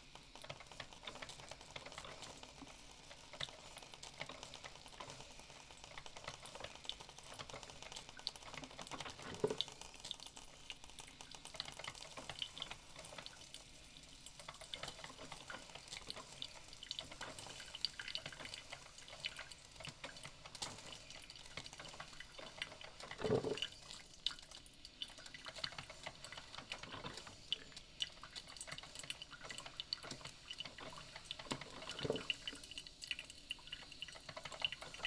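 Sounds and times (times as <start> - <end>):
coffee maker sputtering and dripping: 0.0 - 35.0
faint steady hiss: 0.0 - 35.0
small crackles and clicks: 0.0 - 35.0.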